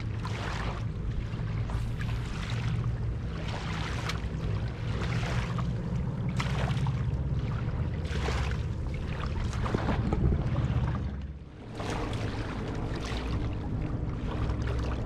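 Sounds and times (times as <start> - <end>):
steady low rumble: 0.0 - 15.0
waves lapping on rocks: 0.0 - 15.0.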